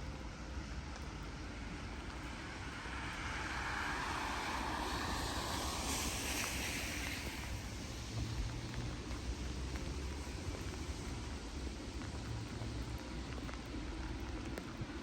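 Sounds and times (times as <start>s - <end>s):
steady rain: 0.0s - 15.0s
tyres hissing on wet road: 0.0s - 15.0s.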